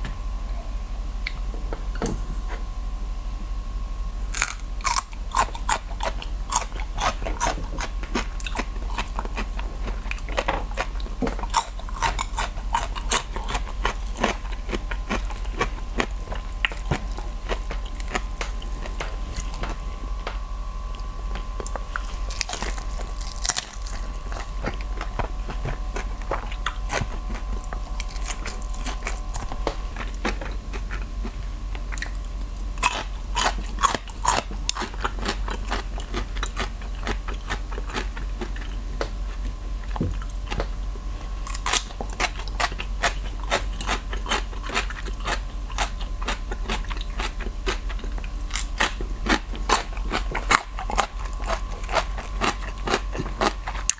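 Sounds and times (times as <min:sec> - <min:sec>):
crunching and chewing lettuce: 0:04.3 - 0:53.9.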